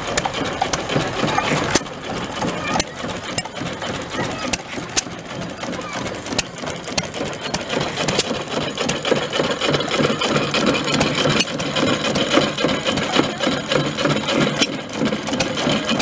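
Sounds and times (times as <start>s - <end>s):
stationary engines clattering: 0.0s - 16.0s.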